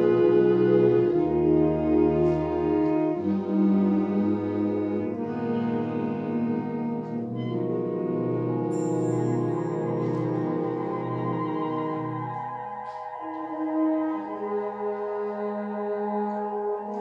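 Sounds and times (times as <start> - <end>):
wind band playing chords: 0.0 - 17.0.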